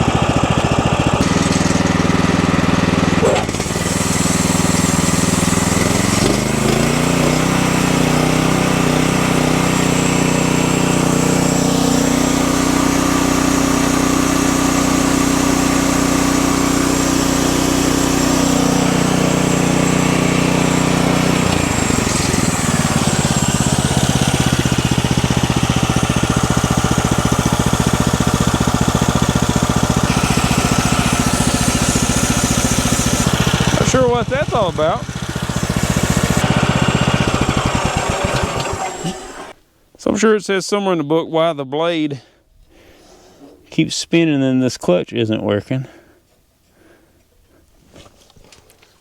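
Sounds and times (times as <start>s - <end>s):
small gasoline engine running: 0.0s - 39.6s.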